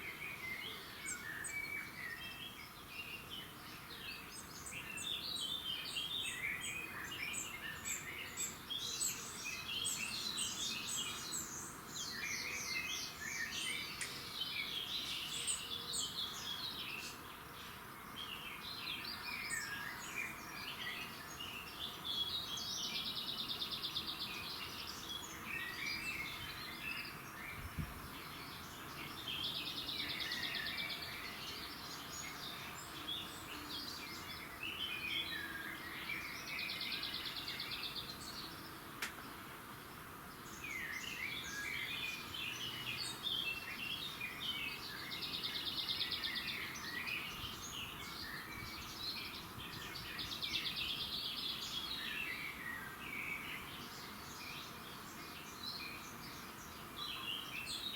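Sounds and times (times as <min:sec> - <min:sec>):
songbirds singing and chirping: 0:00.0 - 0:57.9.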